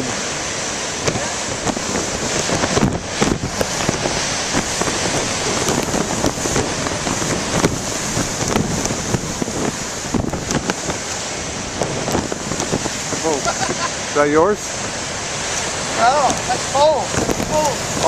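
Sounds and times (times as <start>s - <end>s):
ocean surf crashing: 0.0s - 18.0s
wind buffeting microphone: 0.0s - 18.0s.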